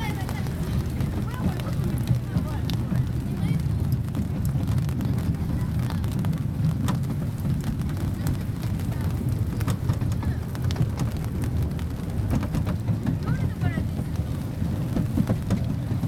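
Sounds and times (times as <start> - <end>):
light clicks and rattles: 0.0 - 16.0
small train rumbling: 0.0 - 16.0.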